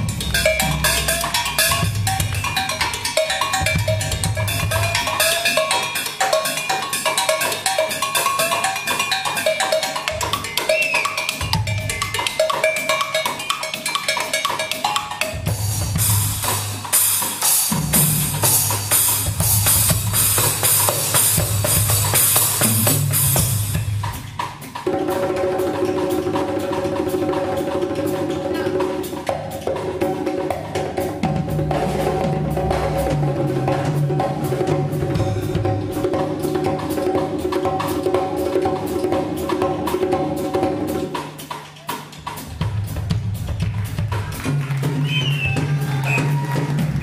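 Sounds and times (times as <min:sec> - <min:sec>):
live band playing instrumental: 0:00.0 - 0:47.0.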